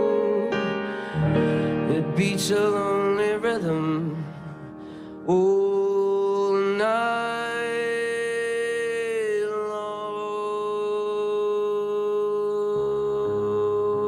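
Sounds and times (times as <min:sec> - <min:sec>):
slow ballad music: 0:00.0 - 0:14.0.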